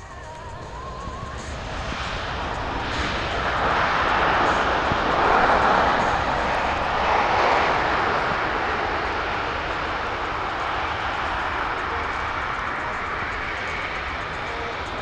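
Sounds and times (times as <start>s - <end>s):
jet engines roaring in reverse thrust: 0.0s - 15.0s.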